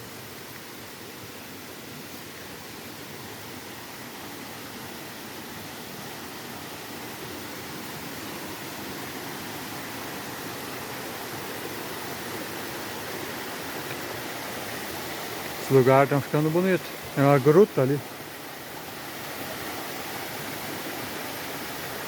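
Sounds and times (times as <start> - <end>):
flowing stream water: 0.0 - 22.0.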